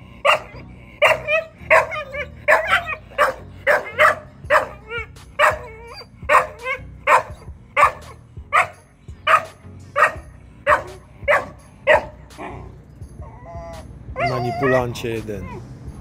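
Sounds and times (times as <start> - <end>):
puppy whining: 0.2 - 8.7, 9.3 - 15.7
puppy barking: 0.2 - 12.7, 13.7 - 15.6.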